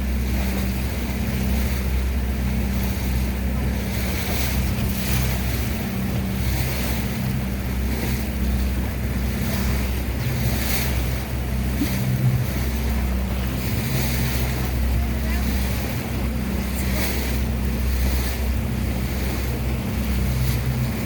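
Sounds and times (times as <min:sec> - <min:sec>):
boat engine droning: 0:00.0 - 0:21.0
water washing along hull: 0:00.0 - 0:21.0
wind on microphone: 0:02.1 - 0:21.0.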